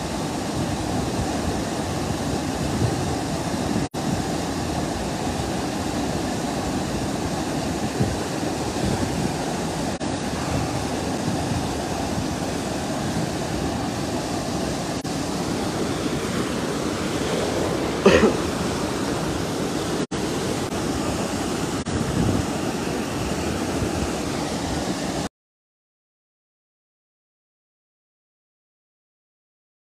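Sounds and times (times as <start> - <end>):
floodwater rushing over rock: 0.0 - 25.3.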